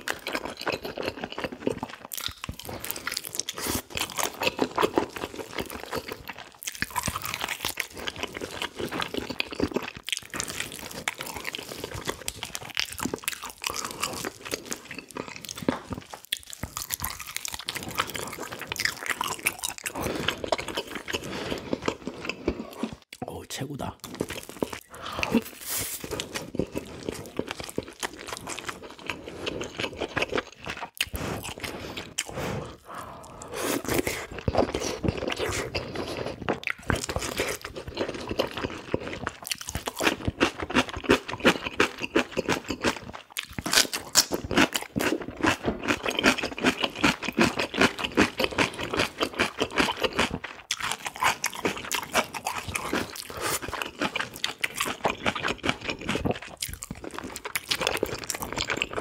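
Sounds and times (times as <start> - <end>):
wet chewing and lip-smacking: 0.0 - 23.2, 24.0 - 59.0.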